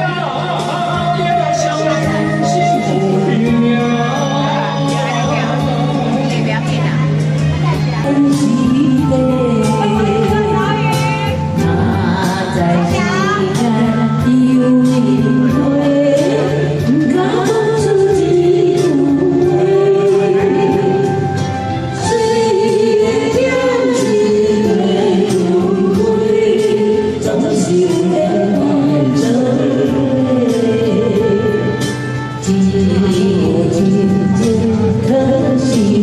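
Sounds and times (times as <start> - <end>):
song with sung melody and beat: 0.0 - 36.0.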